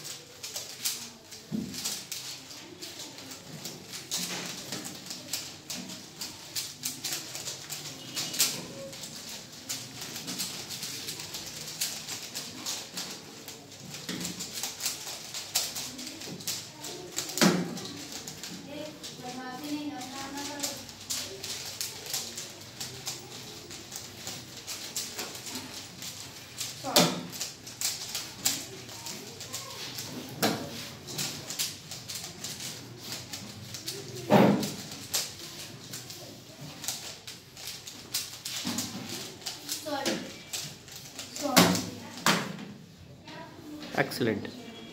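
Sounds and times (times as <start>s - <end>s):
puzzle cubes clicking: 3.2s - 42.2s.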